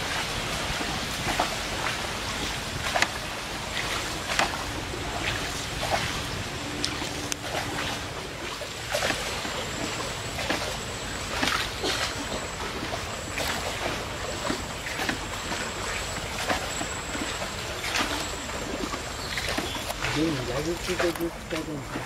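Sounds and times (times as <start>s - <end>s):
paddle strokes splashing: 0.0s - 22.0s
water wash of a hull: 0.0s - 22.0s.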